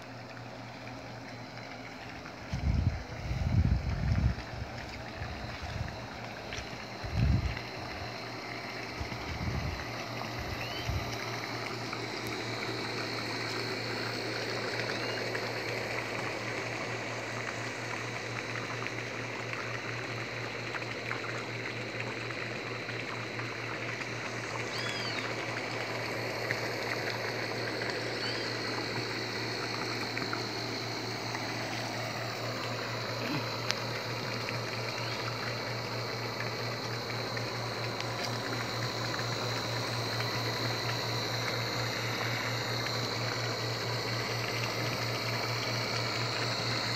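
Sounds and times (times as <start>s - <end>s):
air compressor humming: 0.0s - 20.6s, 21.5s - 46.9s
water pouring into a pond: 0.0s - 46.9s.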